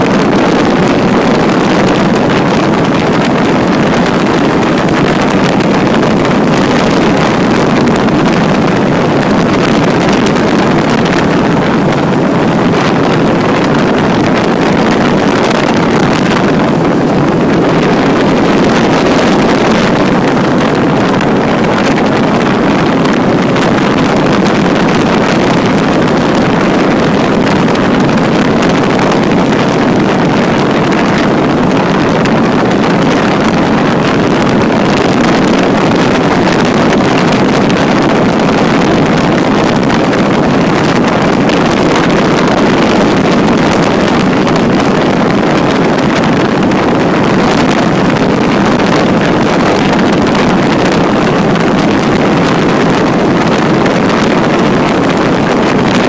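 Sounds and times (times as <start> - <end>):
loud engine drone: 0.0 - 56.0
wind rushing over microphone: 0.0 - 56.0.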